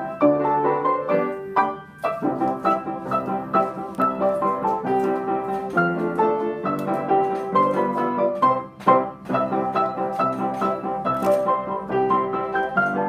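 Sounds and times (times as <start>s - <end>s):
lively piano playing: 0.0s - 13.0s.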